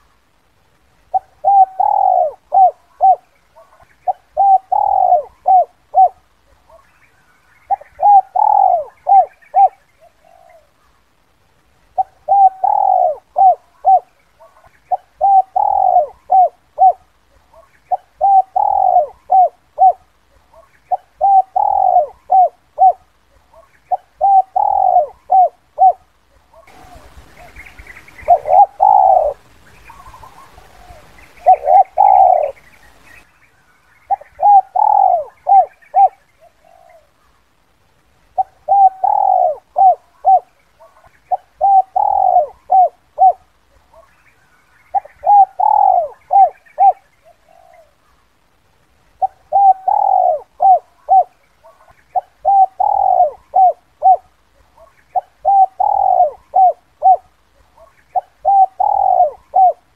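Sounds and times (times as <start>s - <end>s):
dove cooing: 1.1s - 11.0s, 11.9s - 33.2s, 34.0s - 37.3s, 38.3s - 44.2s, 44.8s - 48.2s, 49.1s - 59.9s.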